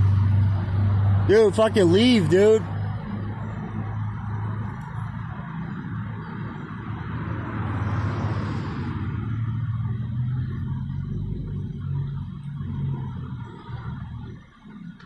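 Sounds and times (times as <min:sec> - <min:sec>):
car engine idling: 0:00.0 - 0:15.0
vehicle passing: 0:00.0 - 0:15.0.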